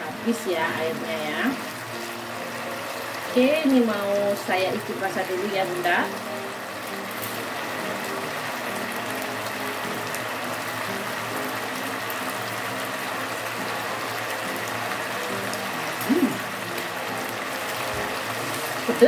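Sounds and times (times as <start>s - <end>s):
sauce bubbling in a wok: 0.3s - 19.0s.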